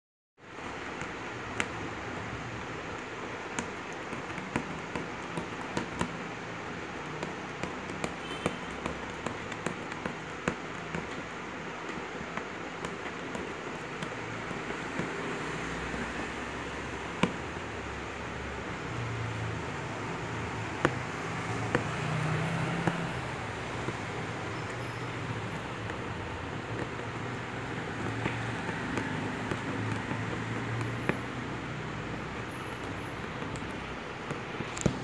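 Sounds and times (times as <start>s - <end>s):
needle clicking through fabric: 0.5s - 17.4s, 20.4s - 35.0s.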